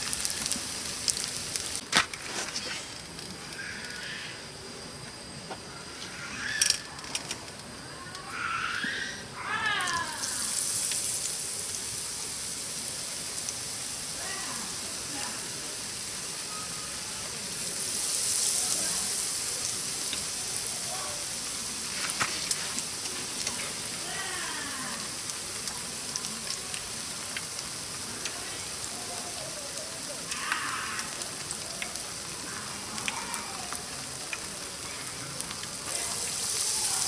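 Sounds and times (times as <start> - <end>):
food sizzling: 0.0 - 37.0.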